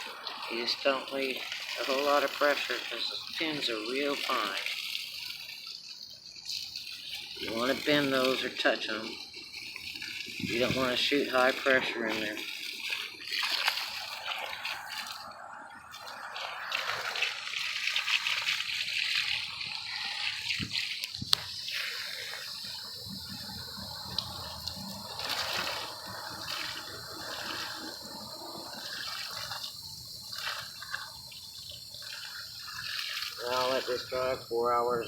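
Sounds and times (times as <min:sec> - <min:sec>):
hose spraying water: 0:00.0 - 0:35.0
water splashing and running off: 0:00.0 - 0:35.0.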